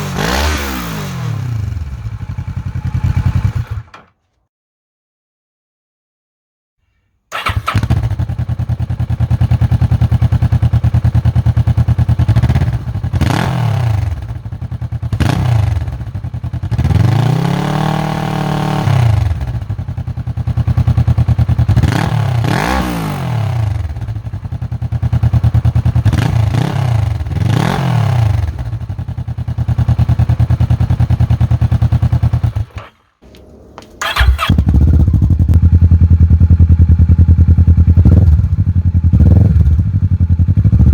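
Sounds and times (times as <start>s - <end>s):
motorcycle engine revving: 0.0s - 3.9s, 7.3s - 40.9s.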